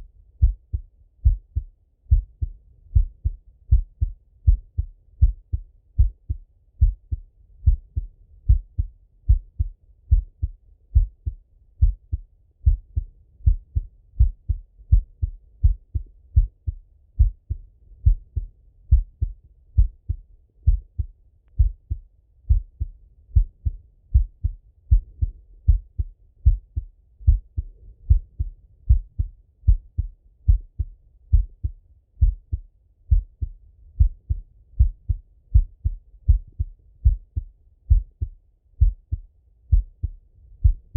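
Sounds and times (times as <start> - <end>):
heartbeat through stethoscope: 0.0 - 40.9.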